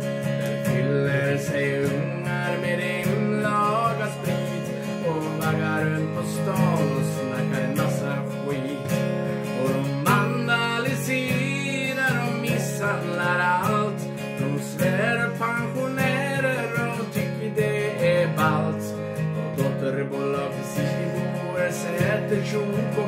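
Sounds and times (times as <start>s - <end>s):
acoustic guitar strumming: 0.0s - 23.0s
man singing: 0.0s - 23.0s.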